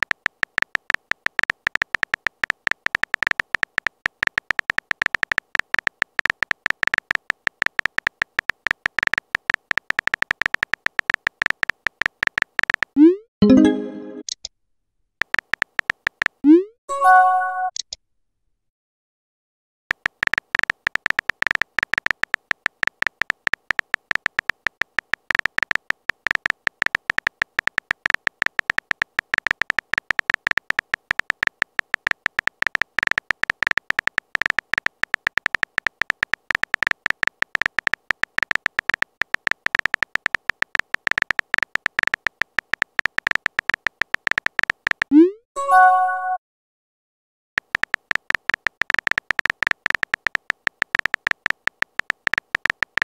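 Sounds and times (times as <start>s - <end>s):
phone keyboard clicks: 0.0s - 13.0s, 15.2s - 16.4s, 19.9s - 45.1s, 47.6s - 53.0s.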